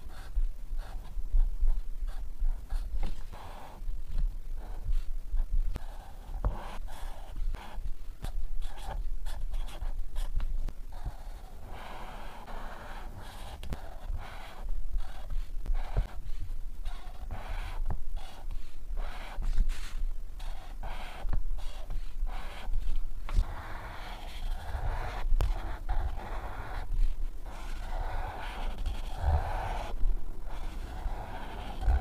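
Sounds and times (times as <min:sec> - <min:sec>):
marker pen drawing on paper: 0:00.0 - 0:32.0.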